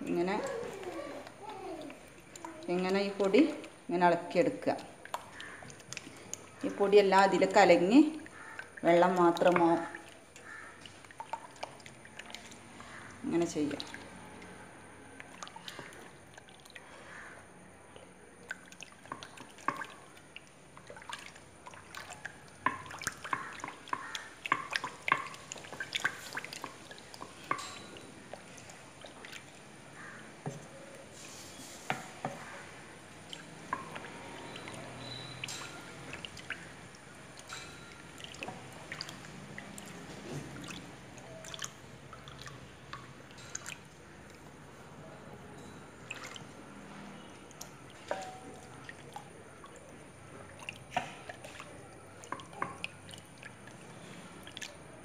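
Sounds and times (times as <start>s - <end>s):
spoon stirring slurry: 0.1s - 44.8s, 45.6s - 54.9s.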